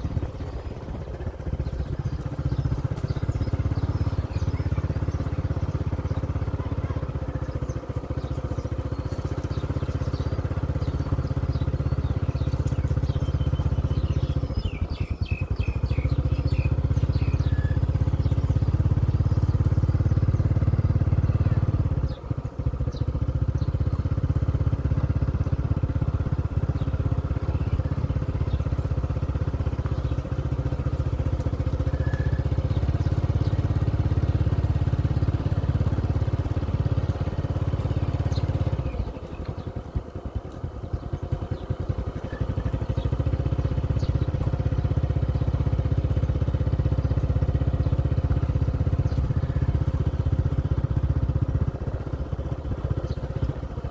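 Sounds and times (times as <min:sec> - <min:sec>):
small motorcycle engine running: 0:00.0 - 0:53.9.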